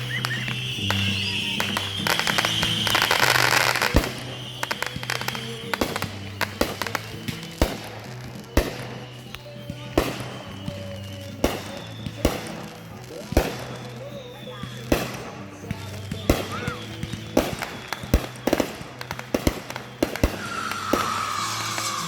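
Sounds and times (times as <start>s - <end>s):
fireworks crackling and booming: 0.0s - 22.0s
music playing: 0.0s - 22.0s.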